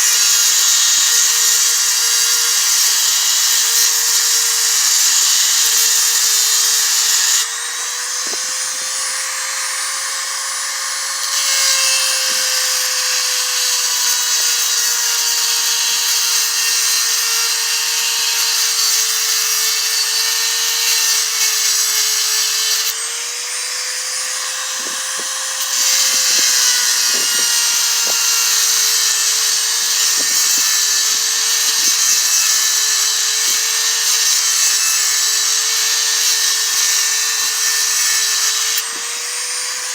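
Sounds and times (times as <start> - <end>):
grinding stone motor whine: 0.0 - 39.9
steel rasping on stone: 0.0 - 39.9.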